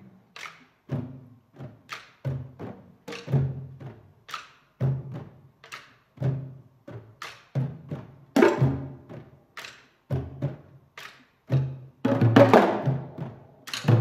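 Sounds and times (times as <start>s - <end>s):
hand drums playing: 0.0s - 14.0s.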